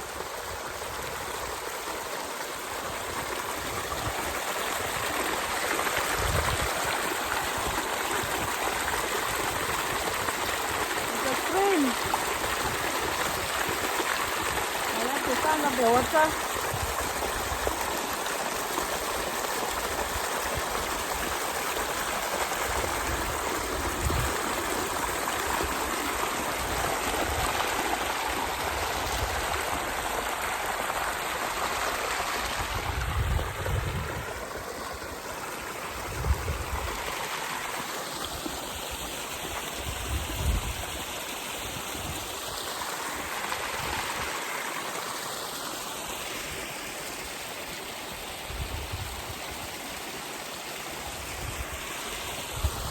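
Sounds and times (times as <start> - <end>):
stream water flowing: 0.0 - 52.9.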